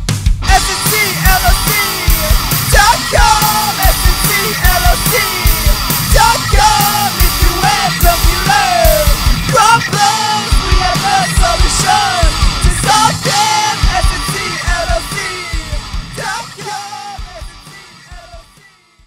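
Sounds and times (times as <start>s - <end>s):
loud steady drum beat: 0.0s - 18.7s
rock music: 0.0s - 19.0s
shouted sung vocals: 0.5s - 18.5s.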